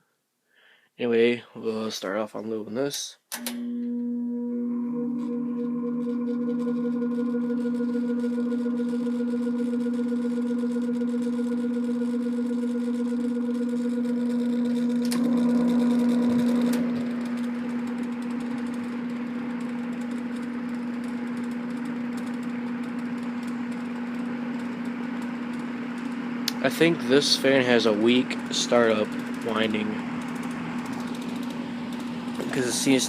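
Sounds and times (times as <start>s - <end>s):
fan motor humming: 3.5s - 33.0s.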